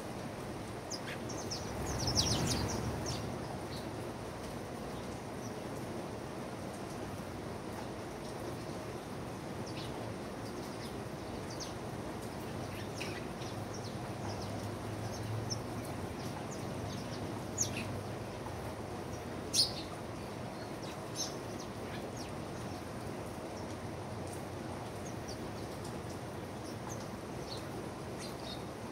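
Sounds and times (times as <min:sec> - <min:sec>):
low background noise: 0:00.0 - 0:28.9
birds chirping: 0:00.7 - 0:04.0, 0:08.3 - 0:28.8.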